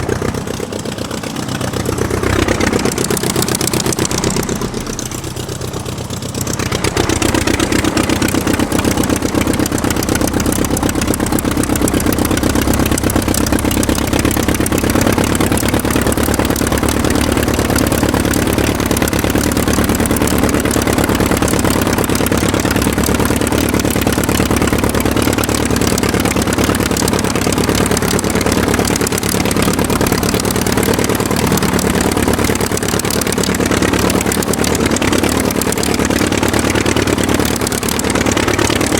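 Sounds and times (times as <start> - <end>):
aircraft engine running: 0.0 - 38.9.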